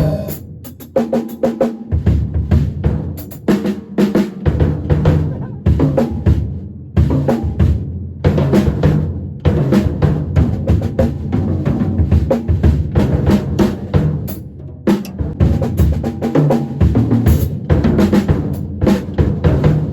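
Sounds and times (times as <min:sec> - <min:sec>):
drum kit groove: 0:00.0 - 0:19.9.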